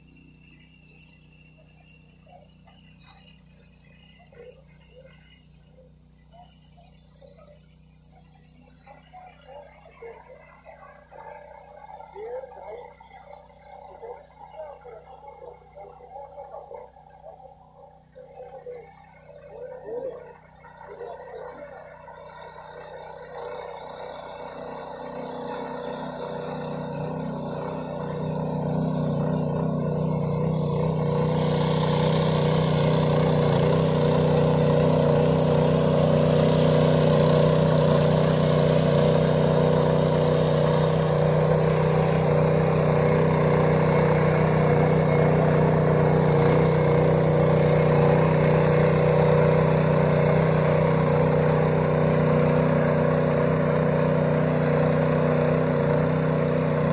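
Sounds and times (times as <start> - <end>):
small petrol engine droning: 0.0 - 56.9.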